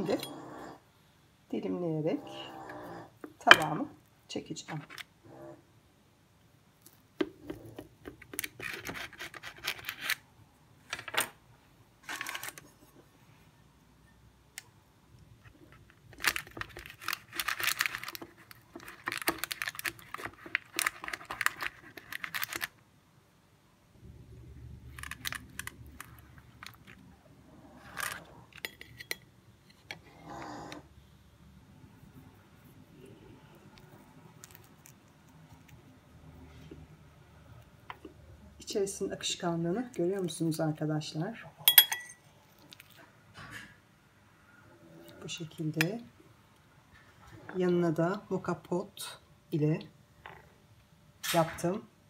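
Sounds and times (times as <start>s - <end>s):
low steady hum: 9.6s - 52.0s.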